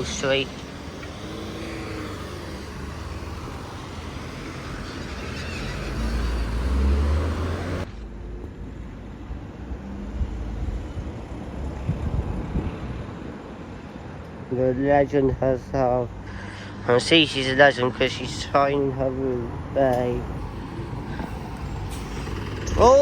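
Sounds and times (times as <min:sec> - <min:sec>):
bus diesel engine rumbling: 0:00.0 - 0:23.0
street traffic: 0:00.0 - 0:23.0.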